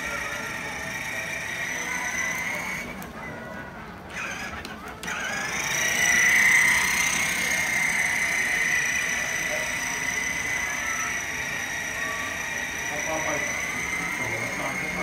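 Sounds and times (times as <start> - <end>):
toy motorcycle motor whining: 0.0 - 15.0.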